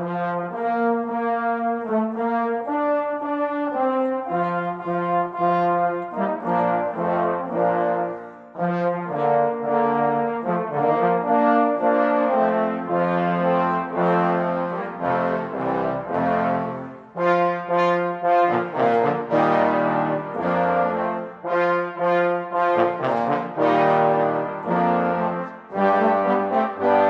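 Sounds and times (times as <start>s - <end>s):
brass ensemble playing chords: 0.0s - 27.0s.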